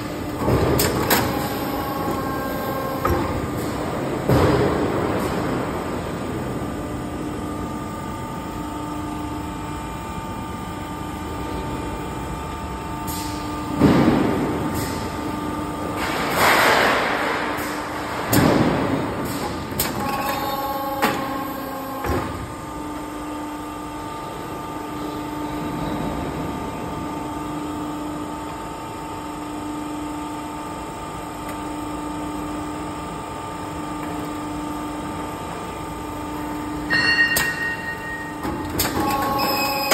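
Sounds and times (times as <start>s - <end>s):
roll forming machine humming: 0.0s - 39.9s.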